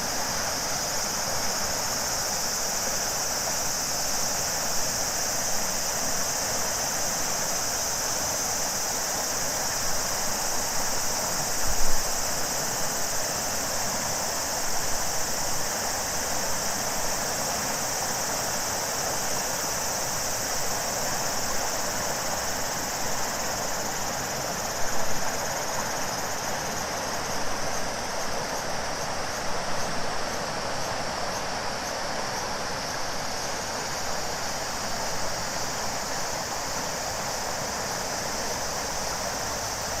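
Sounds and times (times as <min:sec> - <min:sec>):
high-pitched cicada chorus: 0:00.0 - 0:40.0
river water flowing: 0:00.0 - 0:40.0.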